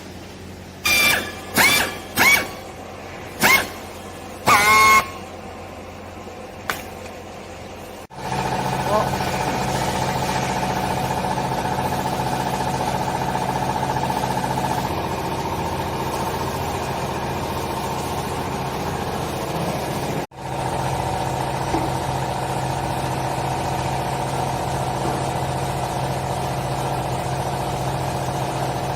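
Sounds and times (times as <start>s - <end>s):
baler motor and pump hum: 0.0s - 28.9s.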